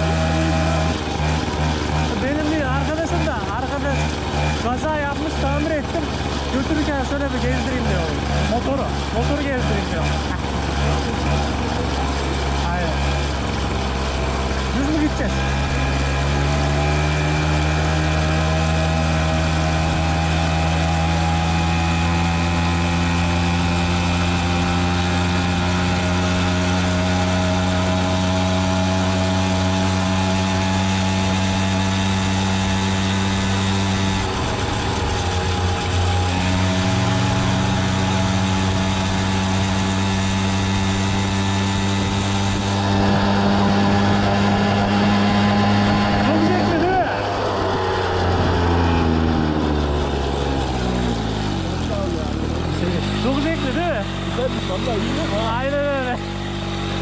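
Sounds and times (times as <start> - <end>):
moped engine buzzing: 0.0 - 57.0.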